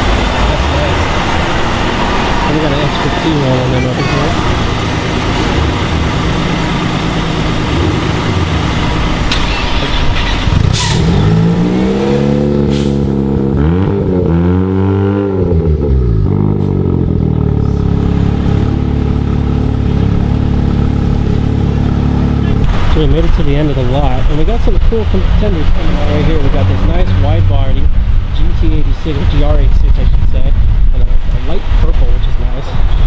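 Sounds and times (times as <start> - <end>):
car engine revving: 0.0 - 33.0
car engines running: 0.0 - 33.0.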